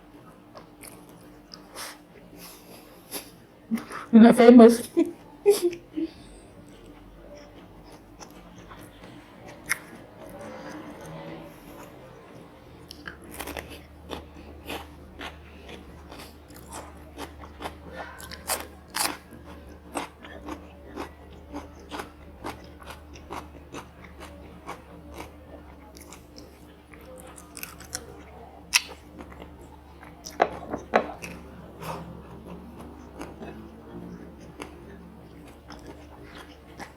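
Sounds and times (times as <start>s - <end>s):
person chewing crunchy food: 0.5s - 2.0s, 6.7s - 12.0s, 12.8s - 36.9s.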